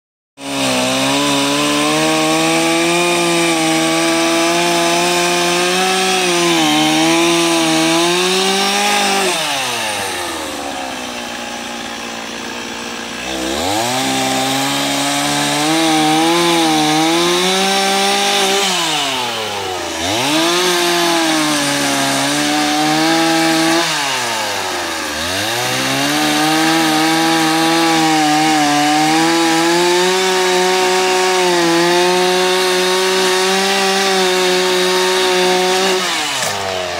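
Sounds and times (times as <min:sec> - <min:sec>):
chainsaw cutting wood: 0:00.4 - 0:36.9.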